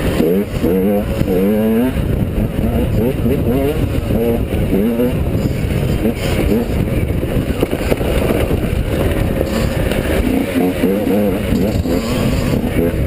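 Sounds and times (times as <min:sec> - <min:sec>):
dirt bike engine revving: 0:00.0 - 0:13.0
heavy rough rumble: 0:00.0 - 0:13.0.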